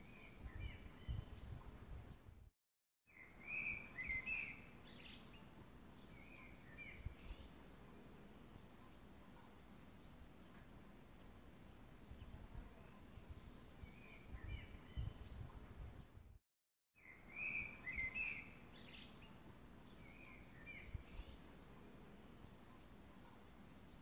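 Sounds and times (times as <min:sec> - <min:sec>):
low outdoor hiss: 0:00.0 - 0:02.3, 0:03.1 - 0:16.4, 0:17.0 - 0:24.0
small birds chirping: 0:00.0 - 0:02.5, 0:03.1 - 0:16.3, 0:17.0 - 0:24.0.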